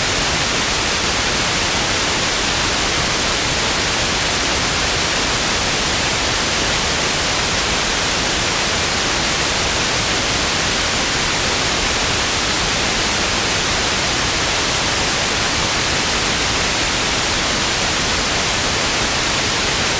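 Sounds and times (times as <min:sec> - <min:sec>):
television static hiss: 0:00.0 - 0:19.9.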